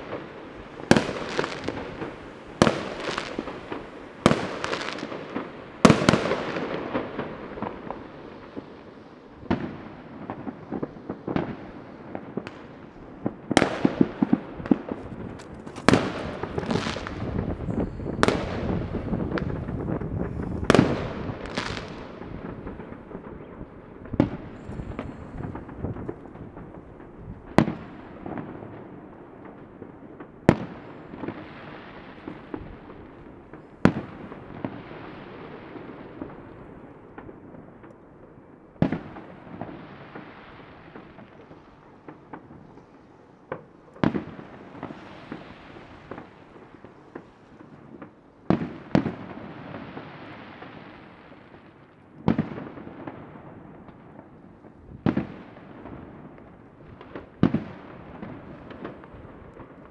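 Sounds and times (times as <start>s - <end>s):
distant fireworks crackling and rumbling: 0.0s - 59.9s
fireworks bangs: 0.0s - 59.9s.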